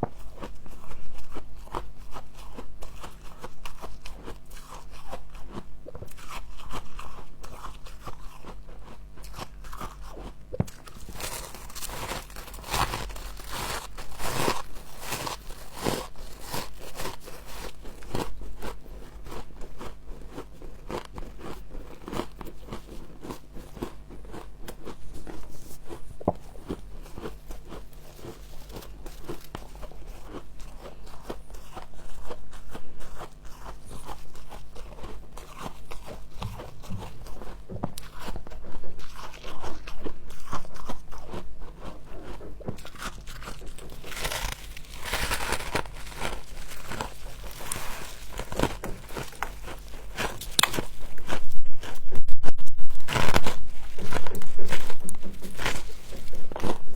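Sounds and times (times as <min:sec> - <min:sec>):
crisp crunching of chewed frost: 0:00.0 - 0:56.9
faint steady hum: 0:00.0 - 0:56.9.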